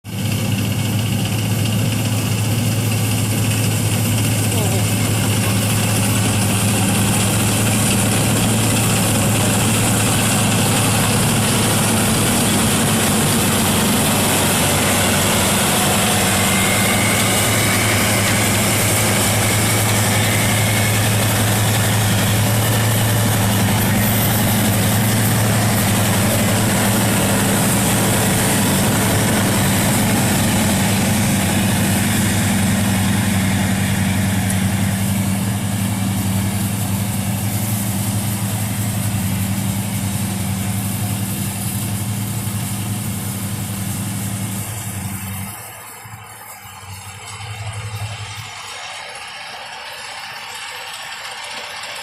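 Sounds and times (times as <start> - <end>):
harvester engine hum: 0.0 - 52.0
machine hiss: 0.4 - 52.0.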